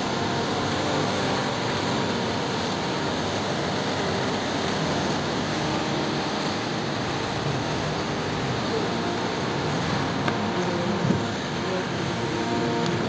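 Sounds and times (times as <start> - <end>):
cars passing on wet road: 0.0 - 13.0.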